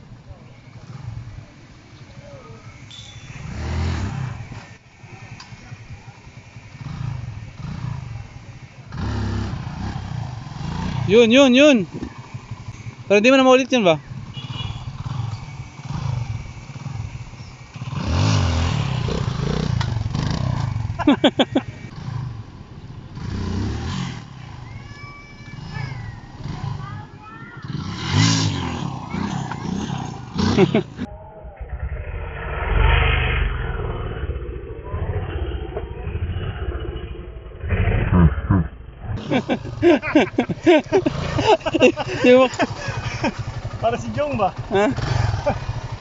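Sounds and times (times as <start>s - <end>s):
dirt bike engine revving: 0.0s - 24.6s, 25.6s - 46.0s.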